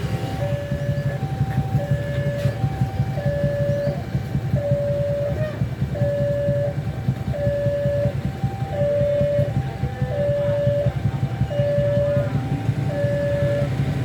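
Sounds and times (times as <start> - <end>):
train rumbling past: 0.0 - 14.0
level crossing two-note alarm: 0.4 - 5.4, 7.4 - 13.7.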